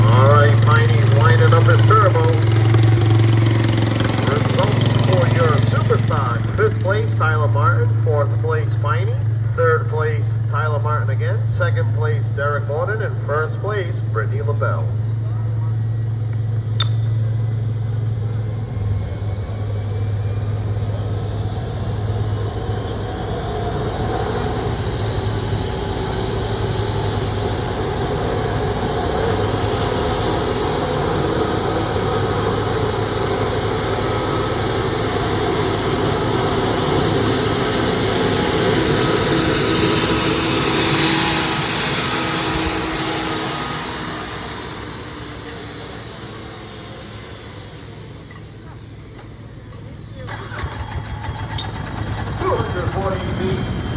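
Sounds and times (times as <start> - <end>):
heavy engine rumble: 0.0 - 53.9
turbine engine whine: 0.0 - 53.9.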